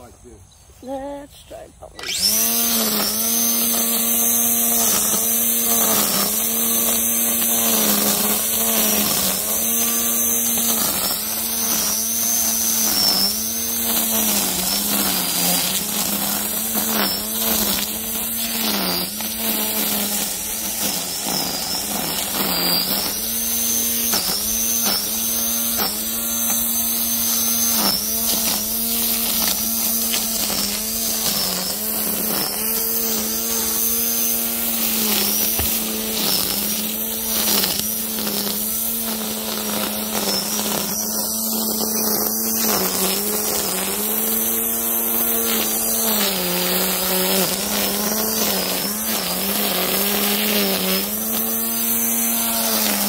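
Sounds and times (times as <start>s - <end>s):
string trimmer motor whine: 0.0s - 53.0s
trimmer line swishing grass: 1.9s - 53.0s.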